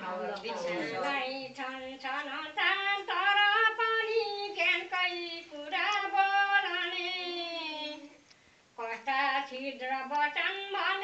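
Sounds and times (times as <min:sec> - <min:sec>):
women singing unaccompanied: 0:00.0 - 0:08.2, 0:08.8 - 0:11.0.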